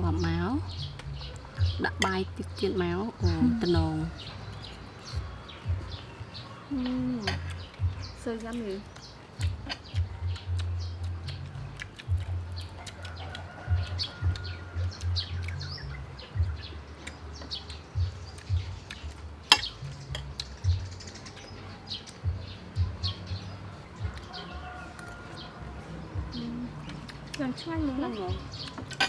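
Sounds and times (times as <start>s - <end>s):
birds chirping: 0.0s - 29.0s
crunching and chewing food: 0.1s - 29.0s.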